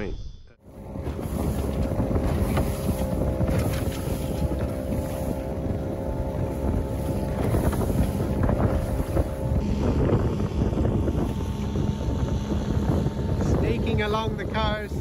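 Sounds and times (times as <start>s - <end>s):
water rushing along hull: 0.6s - 15.0s
wind buffeting microphone: 0.6s - 15.0s.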